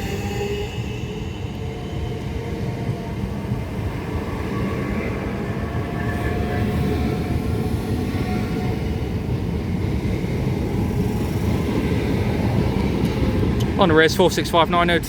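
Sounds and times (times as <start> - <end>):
electric train rumbling past: 0.0 - 15.0.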